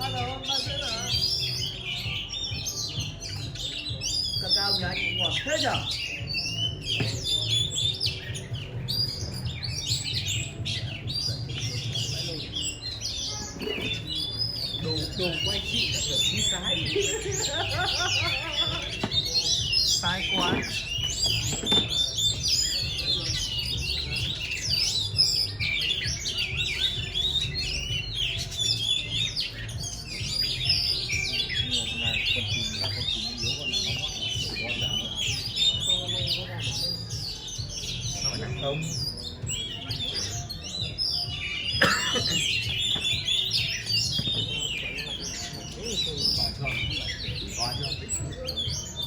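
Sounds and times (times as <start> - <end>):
bird singing whistles and chirps: 0.0 - 49.0.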